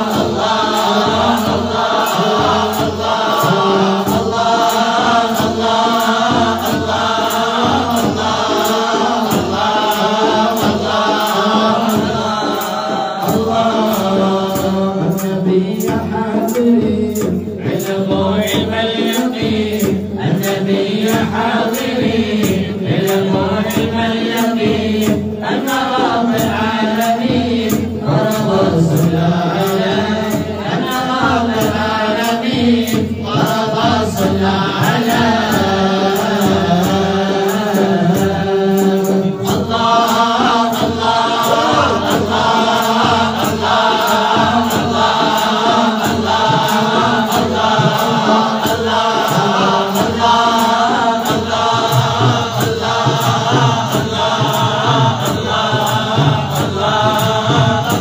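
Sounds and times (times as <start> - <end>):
men chanting a hymn: 0.0 - 58.0.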